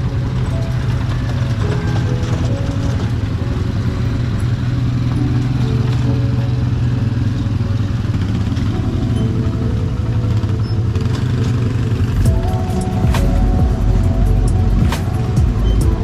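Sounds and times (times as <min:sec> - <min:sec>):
background music: 0:00.0 - 0:16.0
quad bike engine running: 0:00.0 - 0:16.0.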